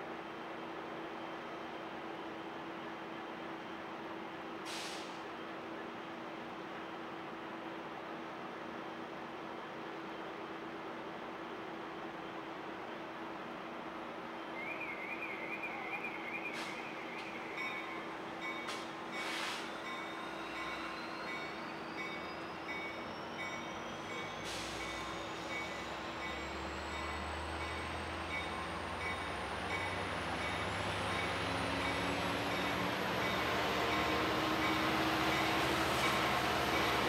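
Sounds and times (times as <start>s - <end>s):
diesel locomotive engine: 0.0s - 37.0s.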